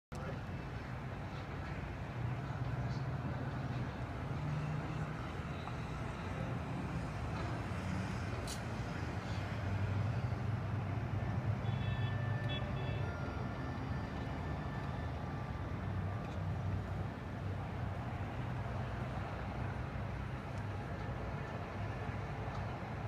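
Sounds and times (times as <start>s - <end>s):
low rumble of city traffic: 0.1s - 23.0s.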